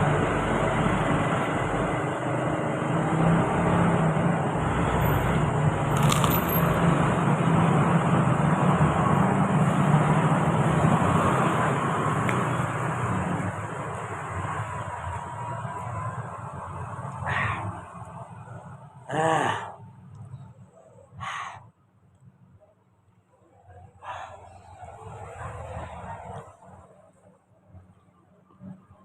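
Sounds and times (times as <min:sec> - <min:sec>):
road traffic with engine hum: 0:00.0 - 0:29.0.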